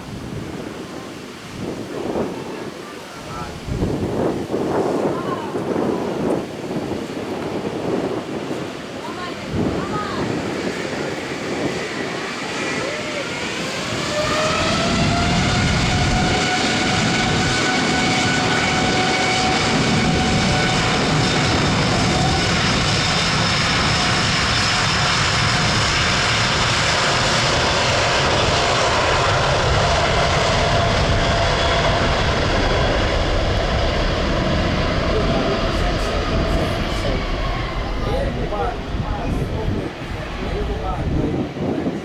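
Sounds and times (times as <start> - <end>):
jet engine whine: 0.0 - 42.0
jet engines roaring: 0.0 - 42.0.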